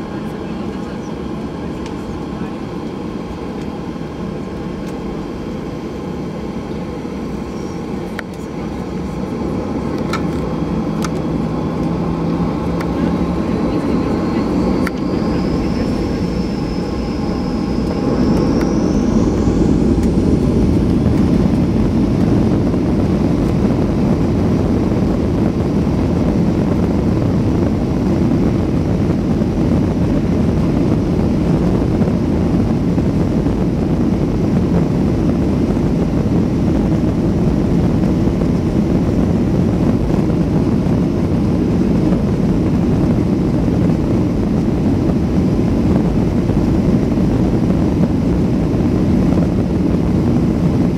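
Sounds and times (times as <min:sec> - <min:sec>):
jet engines spooling up: 0:00.0 - 0:50.9.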